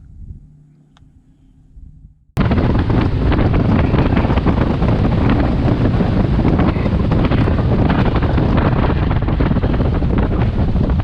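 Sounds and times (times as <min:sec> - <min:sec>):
wind buffeting microphone: 0:00.0 - 0:00.6, 0:01.6 - 0:11.0
faint low hum: 0:00.0 - 0:10.7.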